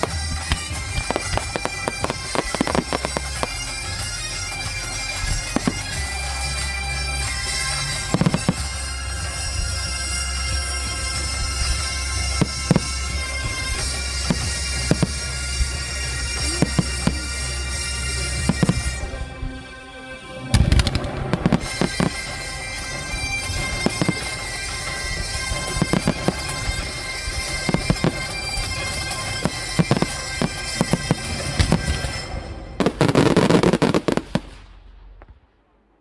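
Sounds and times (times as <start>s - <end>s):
fireworks bangs and crackles: 0.0s - 19.6s, 20.5s - 36.0s
music with long held notes: 0.0s - 34.8s.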